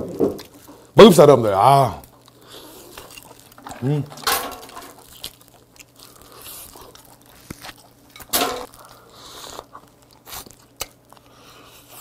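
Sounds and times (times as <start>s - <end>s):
chewing and wet mouth sounds: 0.4s - 12.0s.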